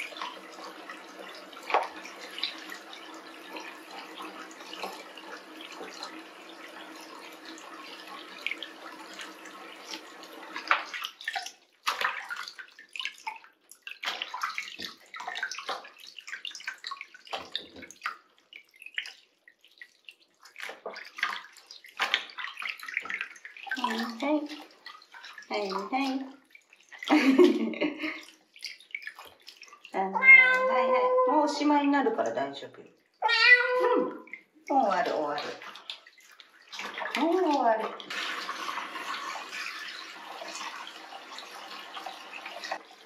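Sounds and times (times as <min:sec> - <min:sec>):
tap water running into sink: 0:00.0 - 0:19.2, 0:19.8 - 0:32.7, 0:33.4 - 0:43.0
water splashing and sloshing: 0:00.0 - 0:43.0.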